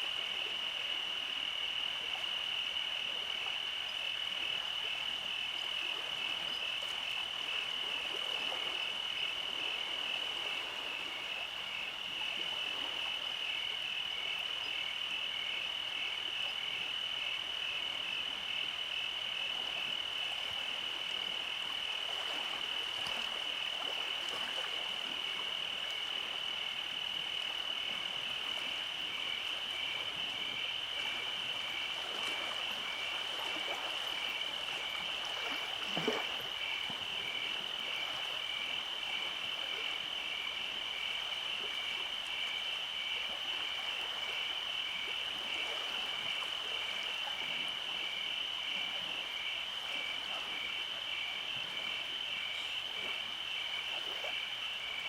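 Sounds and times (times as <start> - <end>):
frogs and insects trilling: 0.0 - 55.0.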